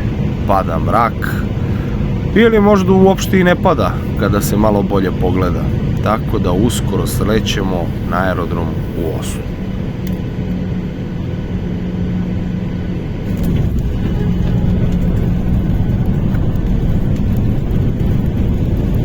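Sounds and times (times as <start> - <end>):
faint hum: 0.0 - 19.0
jet engines and airflow rumble: 0.0 - 19.0.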